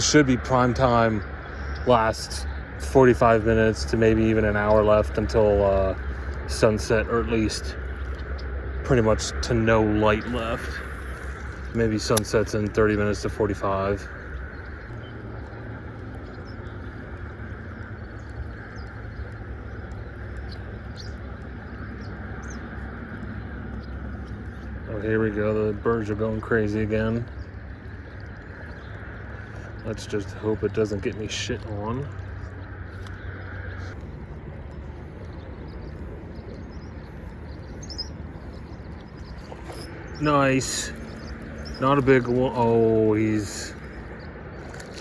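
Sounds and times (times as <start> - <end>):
birds chirping: 0.0 - 45.0
steady low rumble: 0.0 - 45.0.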